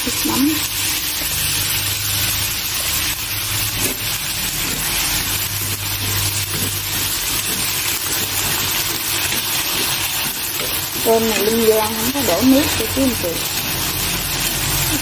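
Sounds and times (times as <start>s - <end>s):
shrimp sizzling in a frying pan: 0.0s - 15.0s
chopsticks stirring food: 1.0s - 15.0s.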